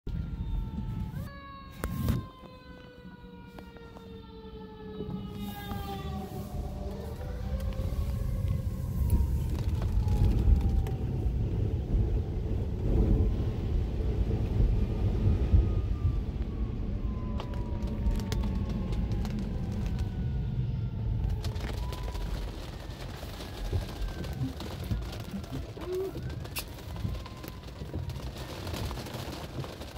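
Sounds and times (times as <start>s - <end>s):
distant fire engine siren: 0.1s - 29.9s
wet traffic: 3.0s - 29.9s.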